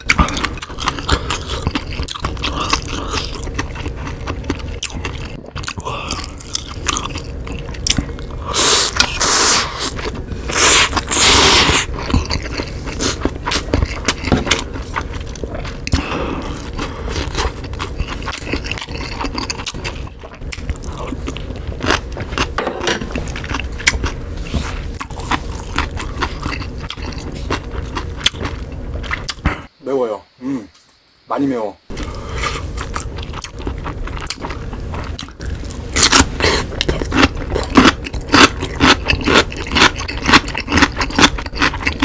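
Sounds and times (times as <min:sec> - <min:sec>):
mouth chewing noodles: 0:00.0 - 0:29.5, 0:31.9 - 0:42.0.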